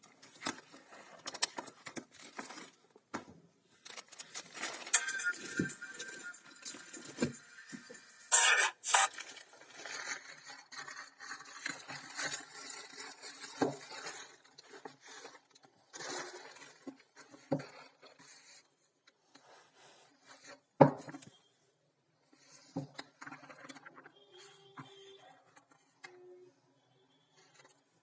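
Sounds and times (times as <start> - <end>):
books and packaging rustling: 0.0 - 28.0.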